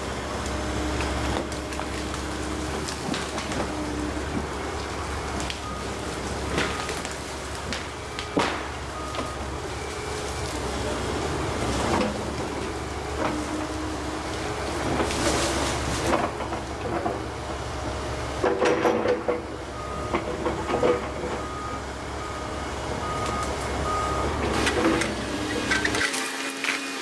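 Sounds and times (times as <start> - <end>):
trees cracking and knocking: 0.0 - 21.8, 22.9 - 27.0
excavator diesel engine running: 0.0 - 27.0.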